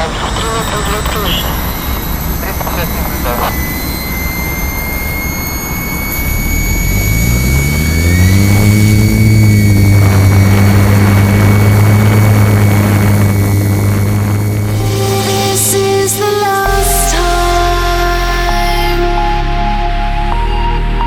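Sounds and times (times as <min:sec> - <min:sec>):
aircraft engines spooling up: 0:00.0 - 0:17.0
thin high whine: 0:00.0 - 0:21.0.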